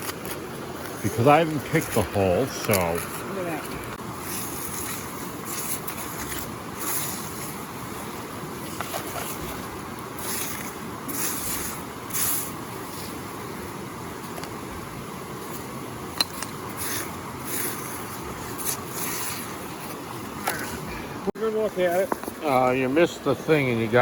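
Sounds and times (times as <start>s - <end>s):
stream water flowing: 0.0s - 24.0s
water swishes: 0.0s - 24.0s.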